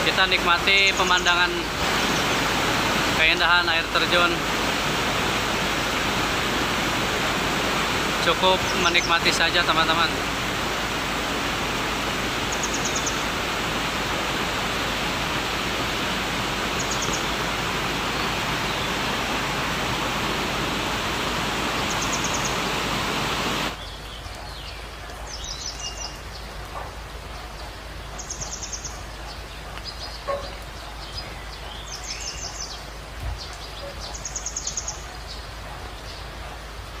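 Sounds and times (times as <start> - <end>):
birds chirping: 0.0 - 37.0
waterfall and stream rushing: 0.0 - 37.0.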